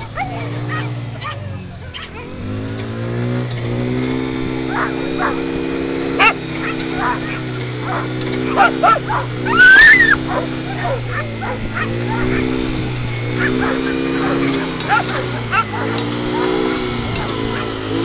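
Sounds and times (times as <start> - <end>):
dog yelping: 0.0 - 2.6, 4.6 - 5.5, 6.2 - 12.7, 13.3 - 17.9
dogs yipping and barking: 0.0 - 18.0
motor running: 0.0 - 18.0.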